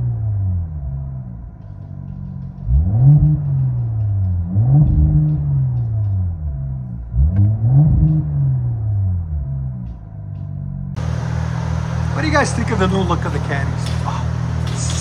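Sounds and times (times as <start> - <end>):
car engine revving down: 0.0 - 15.0
exhaust crackles: 0.0 - 15.0.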